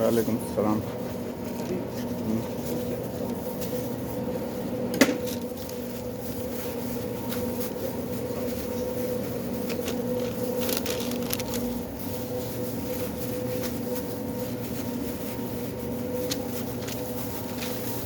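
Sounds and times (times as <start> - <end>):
equipment humming: 0.0 - 18.0.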